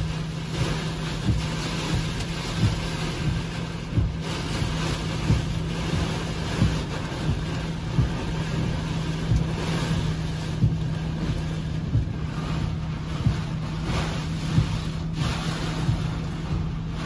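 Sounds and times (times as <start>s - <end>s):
low steady hum: 0.0s - 17.0s
wind and heavy rain on car: 0.0s - 17.0s.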